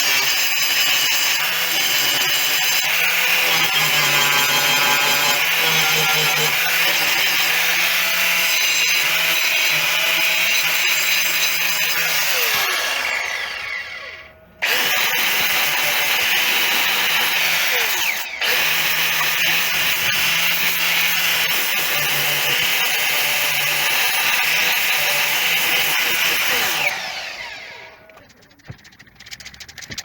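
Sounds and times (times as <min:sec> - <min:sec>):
angle grinder grinding: 0:00.0 - 0:30.0.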